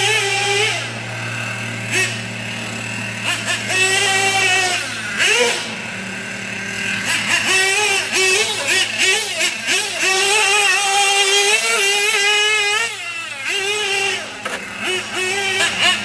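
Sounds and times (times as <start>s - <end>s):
small nitro engine revving: 0.0s - 16.0s.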